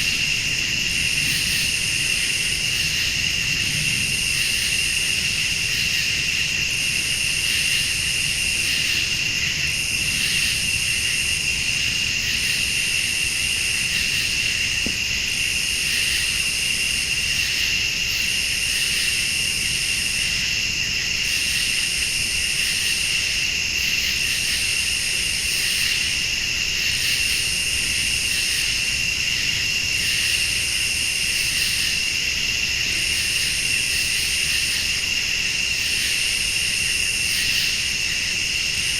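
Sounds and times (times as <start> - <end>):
crickets trilling: 0.0 - 38.9
high pulsing insect call: 0.0 - 38.9.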